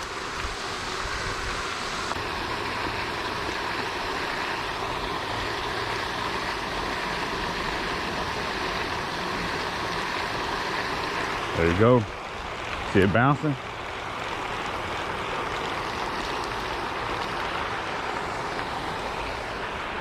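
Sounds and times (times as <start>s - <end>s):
fountain spray splashing on water: 0.0s - 20.0s.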